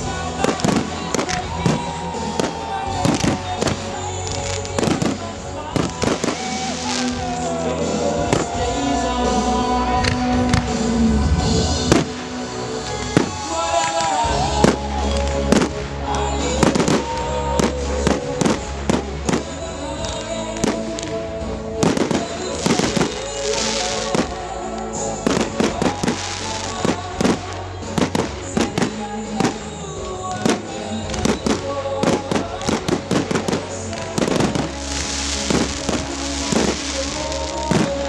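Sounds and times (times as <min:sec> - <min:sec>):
fireworks exploding: 0:00.0 - 0:38.0
music with sustained notes: 0:00.0 - 0:38.0.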